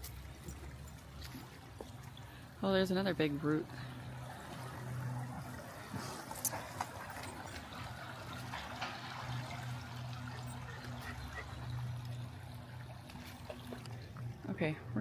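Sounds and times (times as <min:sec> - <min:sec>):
creek water trickling: 0:00.0 - 0:15.0
low hum: 0:00.0 - 0:15.0.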